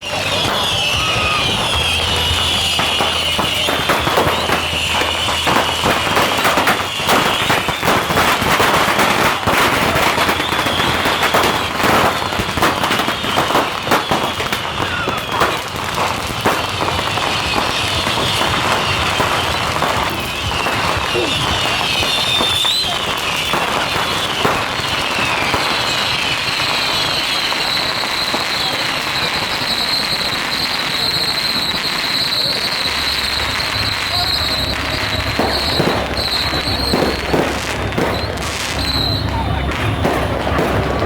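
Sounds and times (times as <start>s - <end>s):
rocket whistling shrieks: 0.0s - 8.9s, 9.8s - 39.4s.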